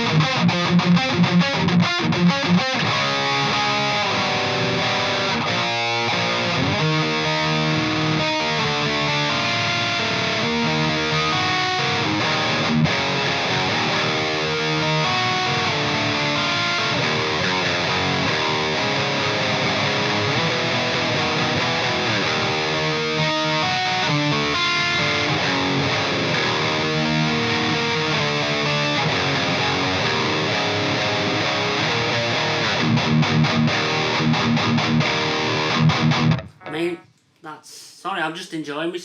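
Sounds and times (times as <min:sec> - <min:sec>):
distorted electric guitar riffing: 0:00.0 - 0:38.0.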